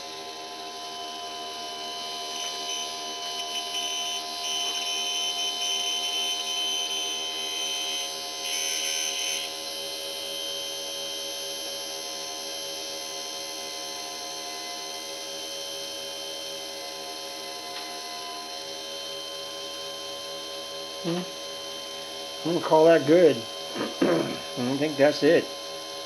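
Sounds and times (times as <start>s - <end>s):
dynamotor whining: 0.0s - 26.0s.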